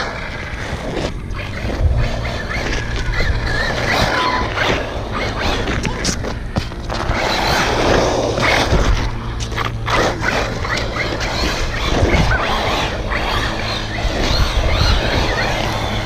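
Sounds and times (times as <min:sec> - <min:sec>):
electric motor whine: 0:00.0 - 0:16.0
tyres scrubbing grit on asphalt: 0:00.0 - 0:16.0.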